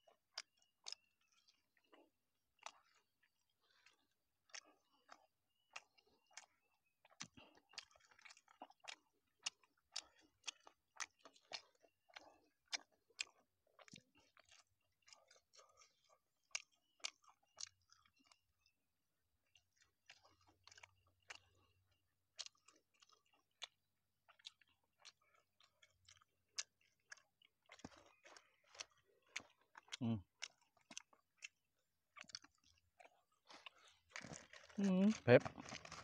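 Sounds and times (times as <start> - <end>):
person chewing wet smacks: 0.0 - 36.0.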